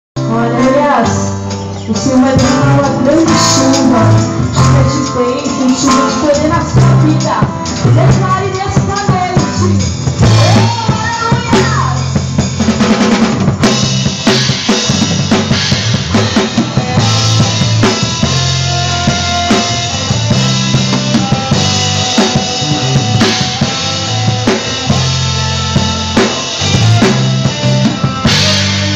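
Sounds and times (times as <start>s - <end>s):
bass guitar: 0.2s - 28.9s
drum kit groove: 0.2s - 28.9s
held keyboard notes: 0.2s - 28.9s.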